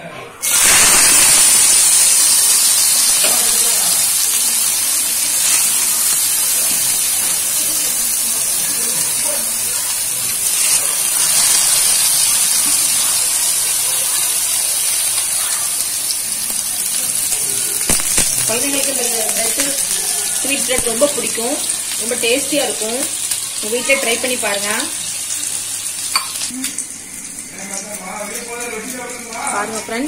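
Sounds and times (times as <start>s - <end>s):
bread sizzling in hot fat: 0.4s - 30.0s.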